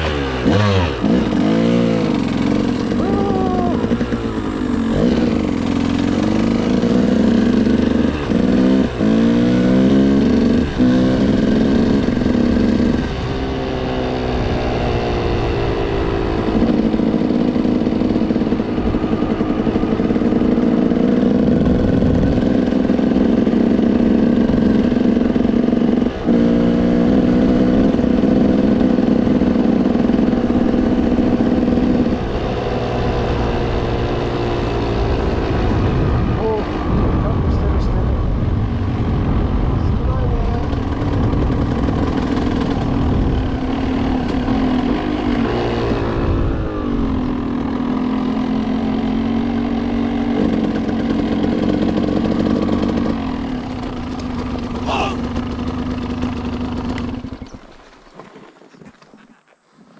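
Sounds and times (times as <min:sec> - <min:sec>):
motorcycle engine revving: 0:00.0 - 0:57.7.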